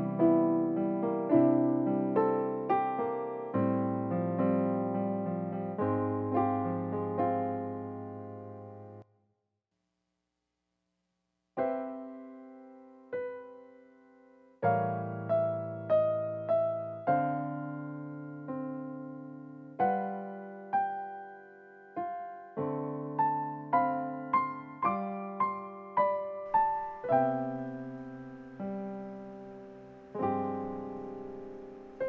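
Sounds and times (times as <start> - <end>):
solo piano music: 0.0 - 9.0, 11.6 - 32.0.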